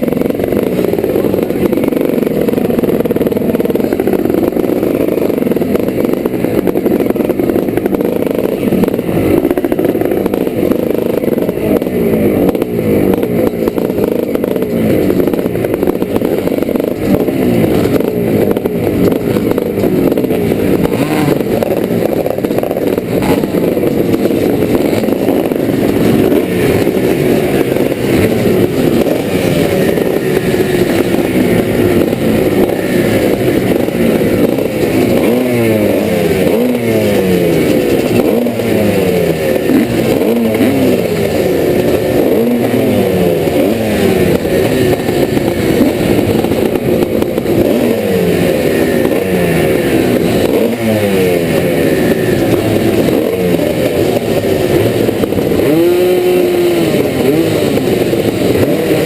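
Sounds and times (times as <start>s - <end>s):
motocross motorcycles racing: 0.0s - 59.0s.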